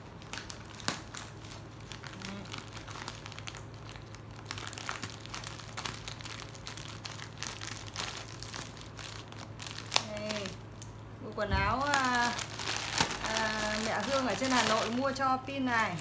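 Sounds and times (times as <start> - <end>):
plastic bag crinkling: 0.0 - 16.0
steady low hum: 0.0 - 16.0.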